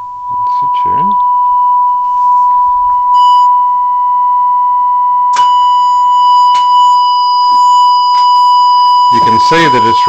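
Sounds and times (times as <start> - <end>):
faint mains hum: 0.0 - 10.0
steady test tone: 0.0 - 10.0.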